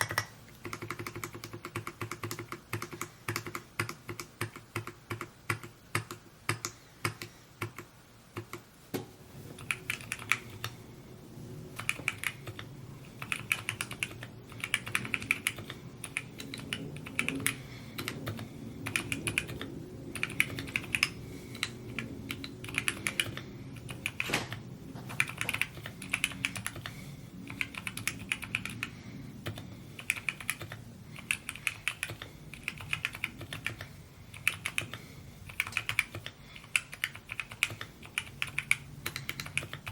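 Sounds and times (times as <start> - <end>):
mechanical keyboard typing: 0.0 - 8.6, 9.6 - 10.8, 11.7 - 39.9.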